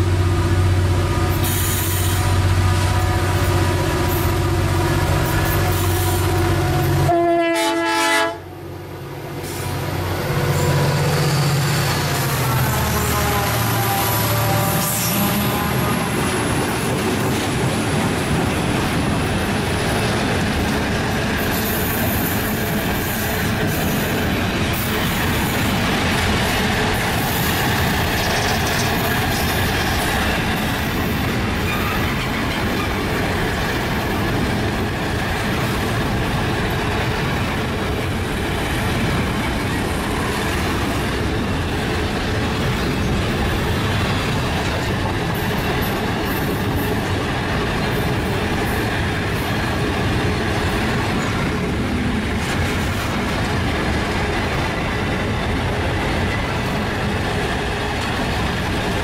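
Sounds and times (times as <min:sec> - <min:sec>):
freight train rumbling and rattling: 0:00.0 - 0:59.0.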